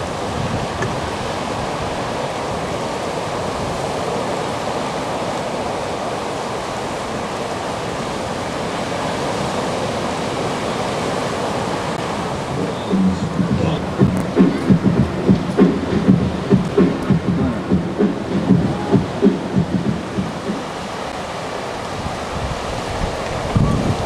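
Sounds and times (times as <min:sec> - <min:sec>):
surf breaking on beach: 0:00.0 - 0:24.0.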